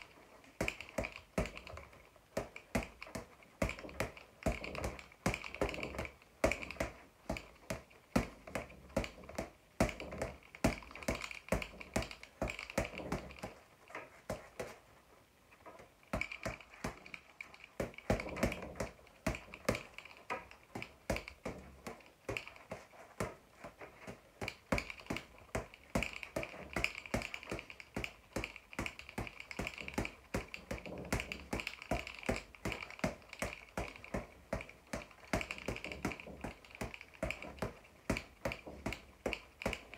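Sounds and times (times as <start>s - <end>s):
boxing gloves slapping a punching ball: 0.0s - 13.6s, 16.1s - 39.9s.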